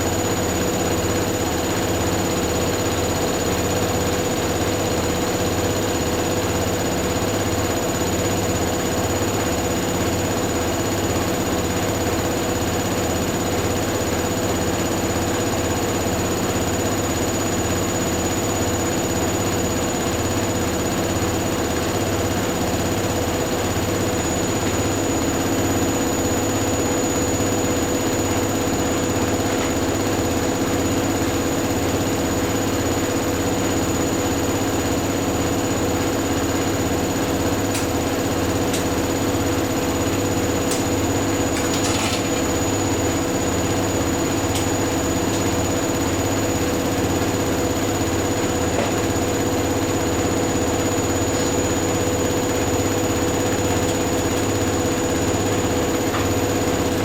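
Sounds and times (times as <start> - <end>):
washing machines spinning: 0.0 - 57.0.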